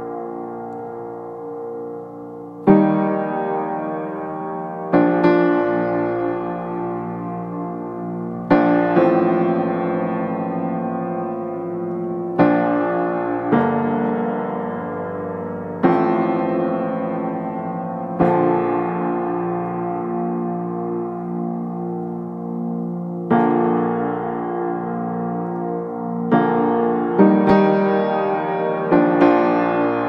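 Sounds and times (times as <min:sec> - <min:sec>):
slow piano chords: 0:00.0 - 0:30.0.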